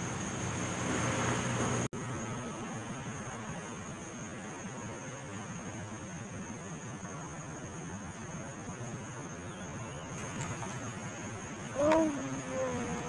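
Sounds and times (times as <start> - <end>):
outdoor hiss and low rumble: 0.0 - 13.0.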